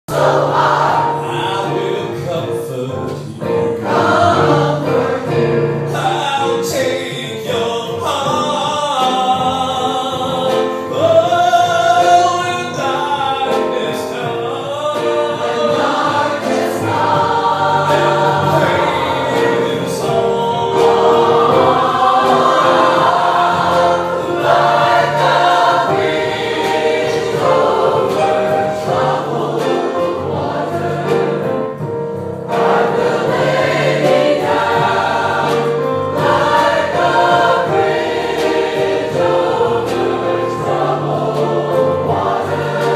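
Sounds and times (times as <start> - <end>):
choir singing gospel song: 0.1 - 42.9.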